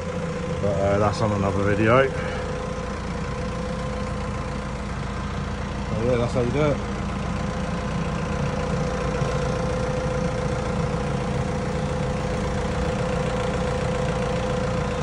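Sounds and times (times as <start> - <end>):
forklift engine idling: 0.0 - 15.0.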